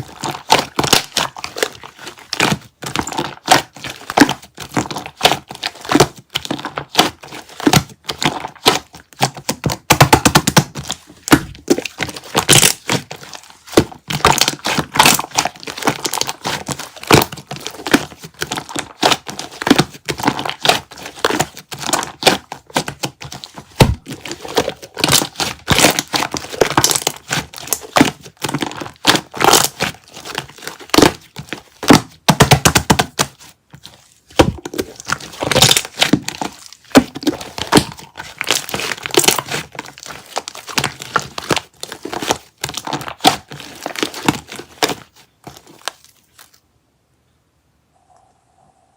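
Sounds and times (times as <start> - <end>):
slime crackling and popping: 0.0 - 46.6.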